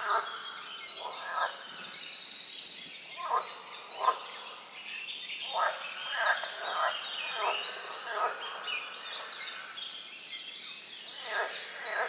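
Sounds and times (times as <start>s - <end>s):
songbirds singing trills: 0.0s - 12.0s.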